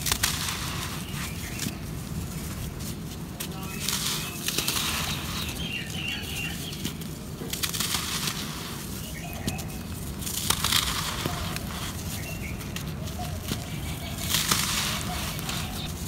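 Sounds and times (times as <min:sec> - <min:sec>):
hands crushing dry dirt: 0:00.0 - 0:16.0.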